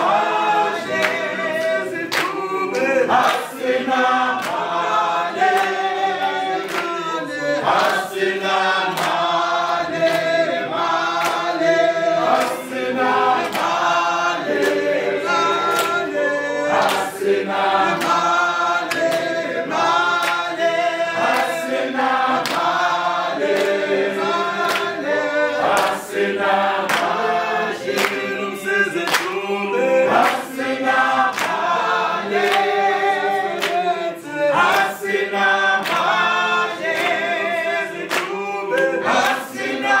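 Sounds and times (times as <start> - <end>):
group singing unaccompanied: 0.0 - 40.0
hand claps: 0.0 - 40.0.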